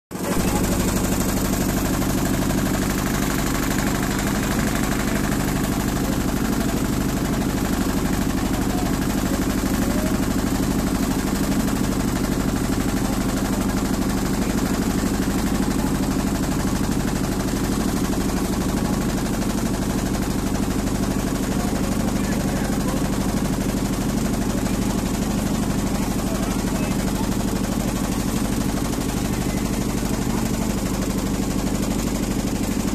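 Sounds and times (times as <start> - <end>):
boat engine humming with rattle: 0.2 - 32.9.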